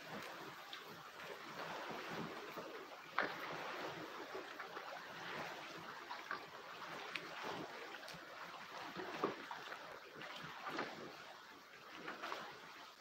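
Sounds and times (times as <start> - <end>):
lake water washing at shore: 0.0 - 13.0.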